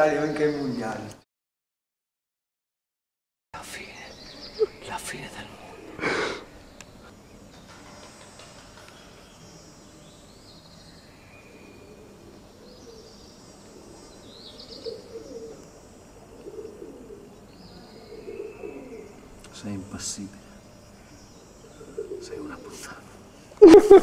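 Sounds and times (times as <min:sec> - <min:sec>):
birds chirping: 0:00.0 - 0:01.2, 0:03.6 - 0:24.0
birds cooing: 0:03.8 - 0:24.0.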